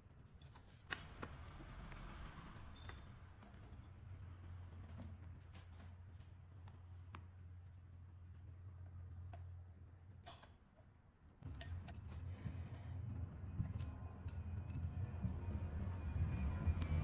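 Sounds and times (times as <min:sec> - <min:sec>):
low hum: 0:00.9 - 0:10.2, 0:11.4 - 0:17.0.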